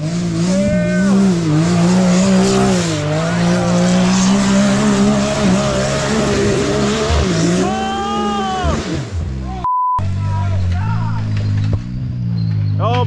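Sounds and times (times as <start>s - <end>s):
utv engine revving: 0.0s - 13.0s.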